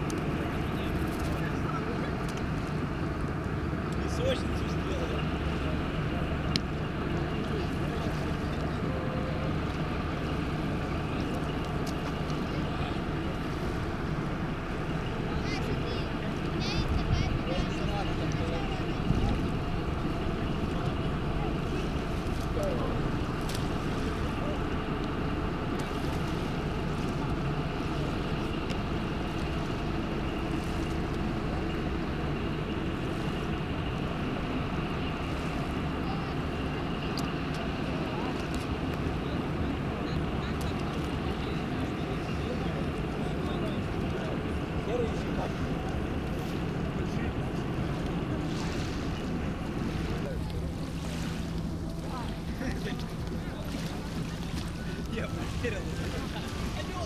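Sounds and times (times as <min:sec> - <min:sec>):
boat engine drone: 0:00.0 - 0:57.0.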